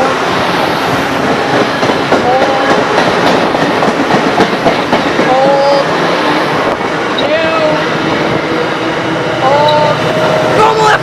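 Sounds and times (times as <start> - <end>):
train wheels clacking on rails: 0.0 - 11.0.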